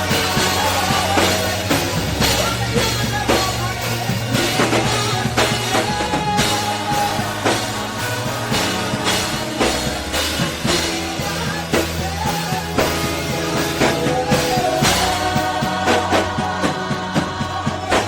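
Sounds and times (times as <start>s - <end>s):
drum kit beat: 0.0s - 18.0s
live gospel worship music: 0.0s - 18.0s.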